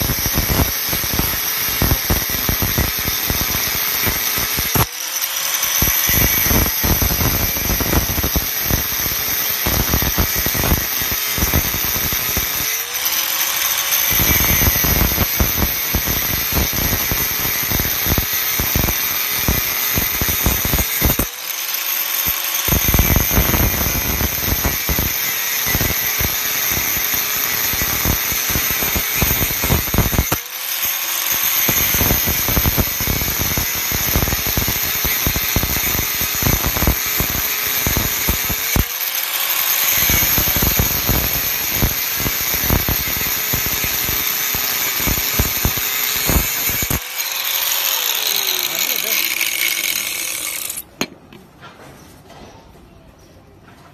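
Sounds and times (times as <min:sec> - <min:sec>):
grinder motor whine: 0:00.0 - 0:51.1
angle grinder cutting steel rod: 0:00.0 - 0:51.2.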